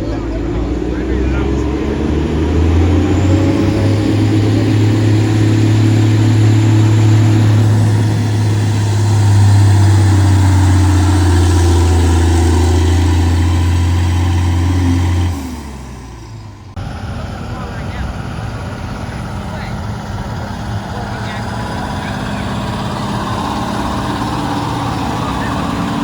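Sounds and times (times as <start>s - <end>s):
diesel truck engine at high revs: 0.0s - 26.0s.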